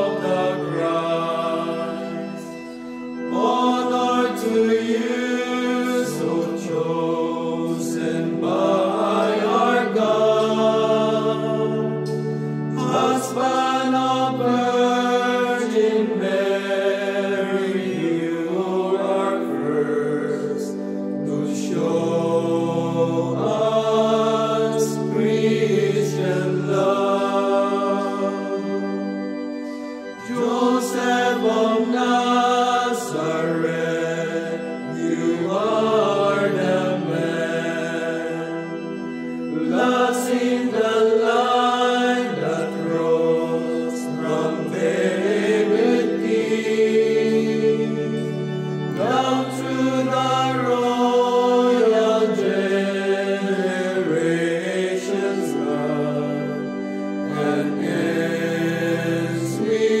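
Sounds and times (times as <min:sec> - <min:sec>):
male choir singing a hymn: 0:00.0 - 1:00.0.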